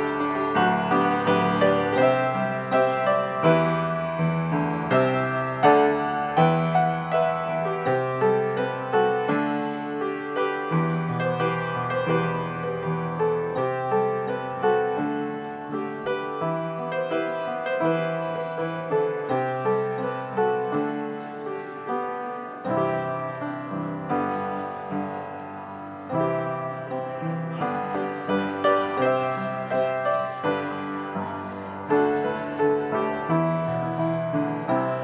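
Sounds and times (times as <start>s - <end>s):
upright piano playing: 0.0s - 35.0s.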